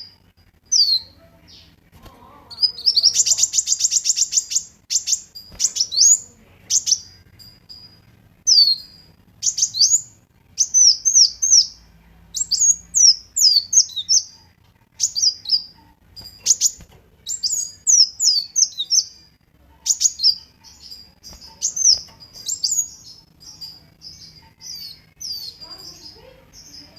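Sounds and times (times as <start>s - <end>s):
sunbird singing: 0.0s - 26.9s.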